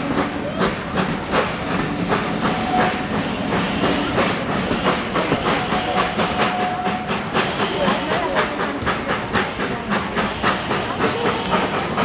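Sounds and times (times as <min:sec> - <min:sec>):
train rumble and hiss: 0:00.0 - 0:12.0
train wheels clattering: 0:00.0 - 0:12.0.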